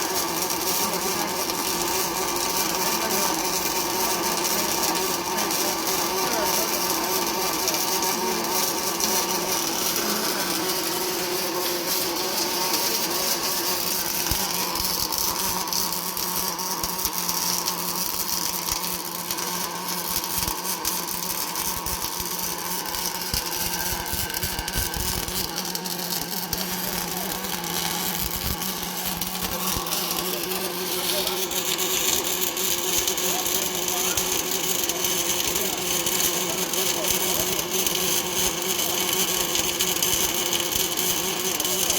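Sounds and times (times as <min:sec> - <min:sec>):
arc welding crackling buzz: 0:00.0 - 0:41.9.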